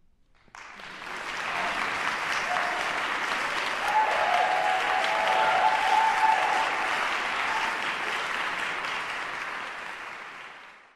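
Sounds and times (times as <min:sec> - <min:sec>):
audience applauding: 0:00.5 - 0:10.9
audience cheering: 0:00.9 - 0:09.8.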